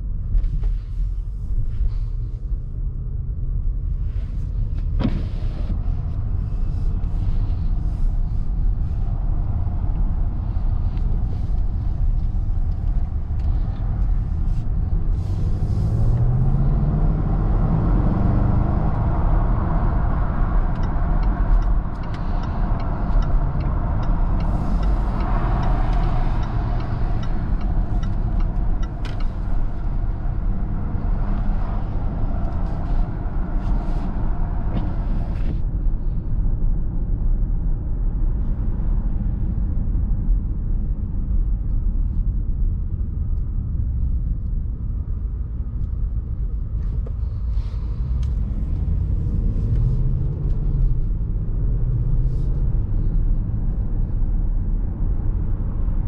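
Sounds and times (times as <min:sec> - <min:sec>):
car engine rumbling: 0:00.0 - 0:56.0
tyre and road noise: 0:00.0 - 0:56.0.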